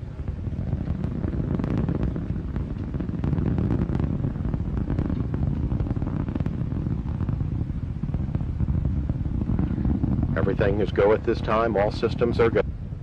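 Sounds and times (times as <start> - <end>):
rocket engine rumble crackling: 0.0 - 13.0.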